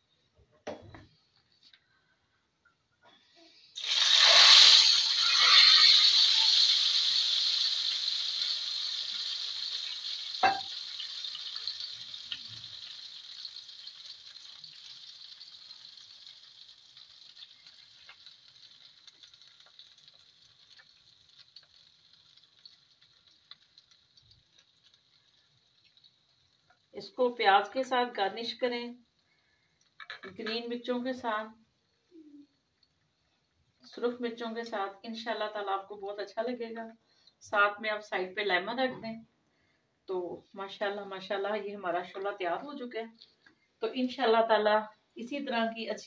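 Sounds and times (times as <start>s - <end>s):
hot oil sizzling: 3.8s - 36.8s, 40.6s - 46.0s.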